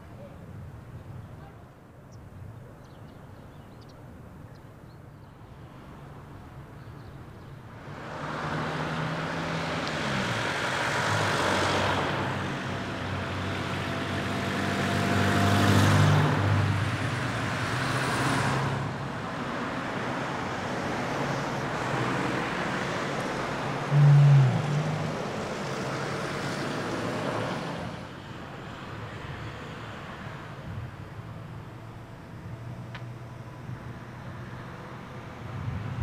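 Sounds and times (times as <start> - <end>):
vehicles driving past: 5.4 - 36.0.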